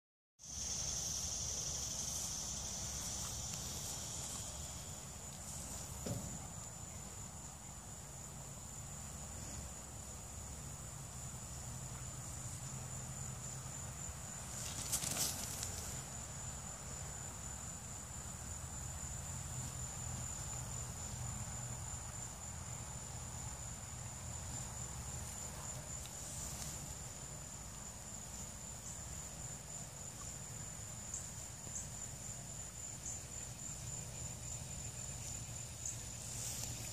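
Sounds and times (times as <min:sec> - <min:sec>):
insects trilling: 0:00.4 - 0:36.9.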